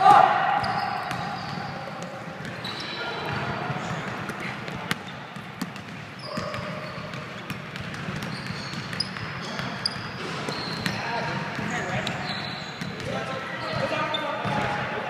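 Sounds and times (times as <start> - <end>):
voices echoing in hall: 0.0 - 15.0
sneaker squeaks: 0.1 - 14.8
basketball bouncing on gym floor: 0.6 - 14.8.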